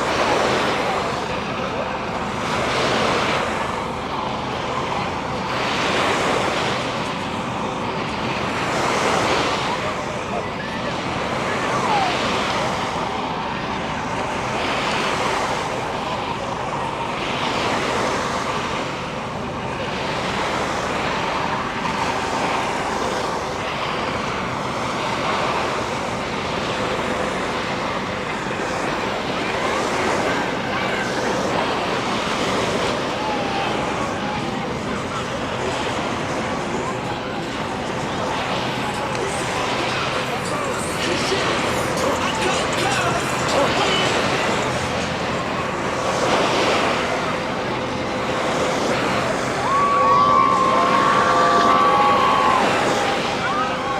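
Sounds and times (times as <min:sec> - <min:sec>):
faint steady drone: 0:00.0 - 0:53.9
ocean surf breaking on beach: 0:00.0 - 0:53.9.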